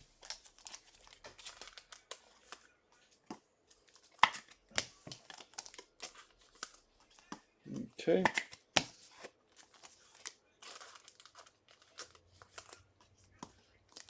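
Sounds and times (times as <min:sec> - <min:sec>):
plastic packaging crinkling: 0:00.0 - 0:02.7, 0:03.7 - 0:14.0.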